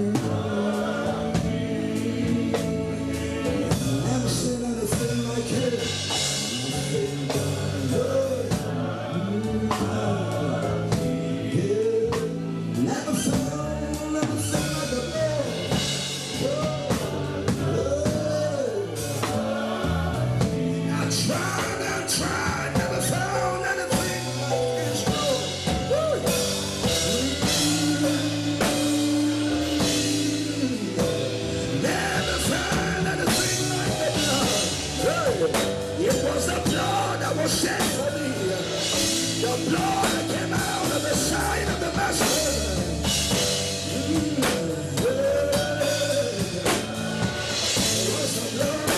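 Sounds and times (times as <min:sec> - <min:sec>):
drum kit beat: 0:00.0 - 0:48.9
singing over a band: 0:00.0 - 0:48.9.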